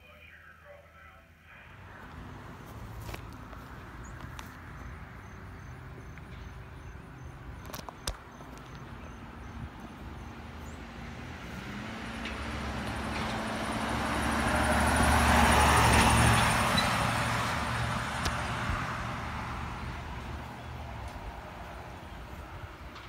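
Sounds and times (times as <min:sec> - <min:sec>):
ambulance driving past: 0:00.0 - 0:23.0.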